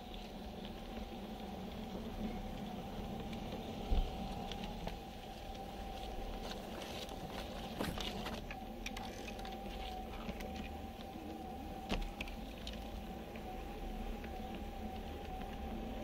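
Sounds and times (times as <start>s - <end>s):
wheels rumbling on track: 0.0s - 16.0s.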